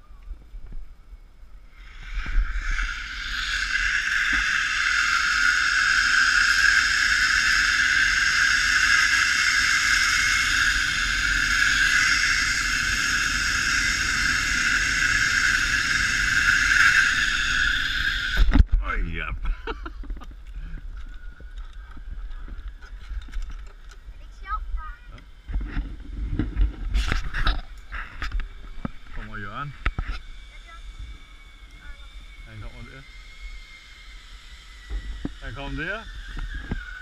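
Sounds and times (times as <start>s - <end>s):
zipline pulleys whirring on cable: 1.6s - 18.7s, 19.6s - 37.0s.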